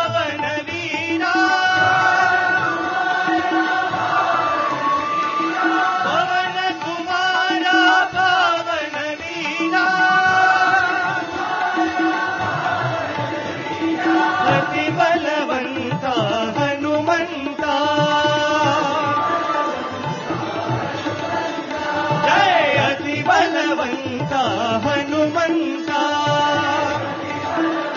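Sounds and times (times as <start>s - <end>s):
tabla: 0.0s - 27.9s.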